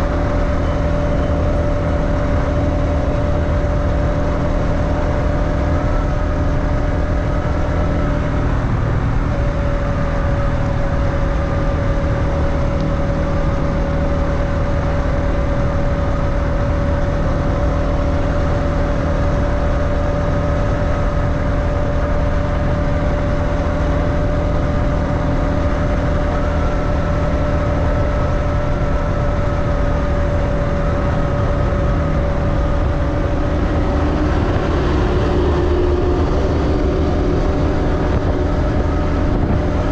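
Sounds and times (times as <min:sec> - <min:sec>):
motorbike engine cruising: 0:00.0 - 0:39.9
wind rushing over microphone: 0:00.0 - 0:39.9.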